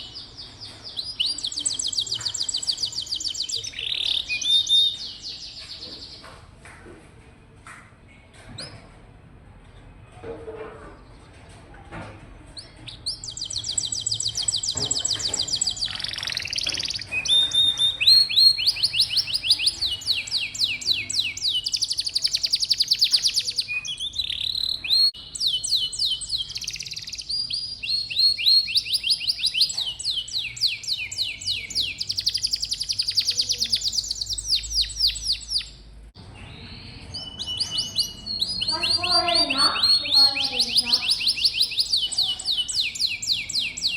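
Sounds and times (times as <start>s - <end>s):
canary singing trills: 0.0s - 6.2s, 12.6s - 43.9s.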